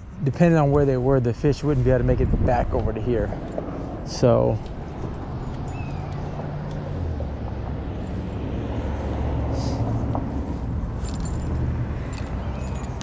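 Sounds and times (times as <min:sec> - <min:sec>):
rushing background noise: 0:00.0 - 0:13.0
vehicle engine humming: 0:00.0 - 0:13.0.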